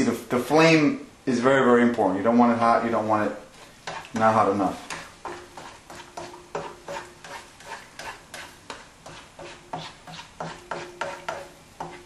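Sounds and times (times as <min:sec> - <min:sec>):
spatula scraping frying pan: 0:02.2 - 0:12.0.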